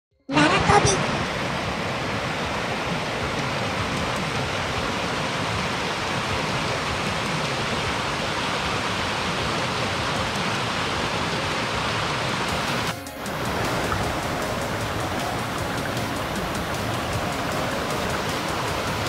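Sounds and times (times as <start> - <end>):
mountain stream rushing over boulders: 0.8 - 19.0.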